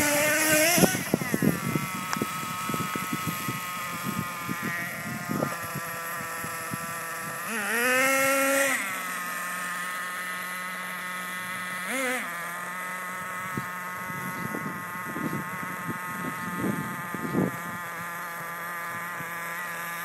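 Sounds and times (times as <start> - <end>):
small engine idling and revving: 0.0 - 20.0.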